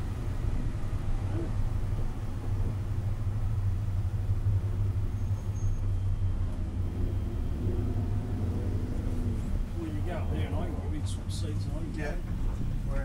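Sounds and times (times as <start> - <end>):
car engine drone from inside cabin: 0.0 - 13.0
road noise: 0.0 - 13.0.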